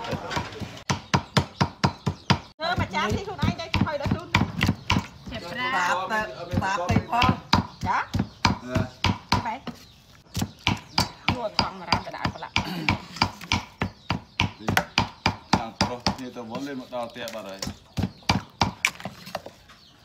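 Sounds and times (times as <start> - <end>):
voices talking: 0.0 - 1.3, 2.3 - 19.5.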